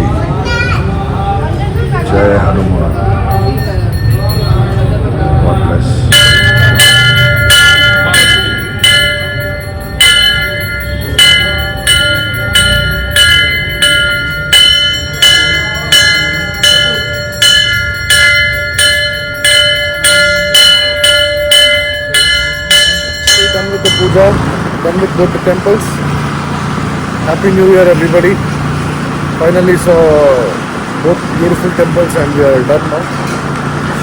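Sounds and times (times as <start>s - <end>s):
temple bell ringing: 0.1s - 34.0s.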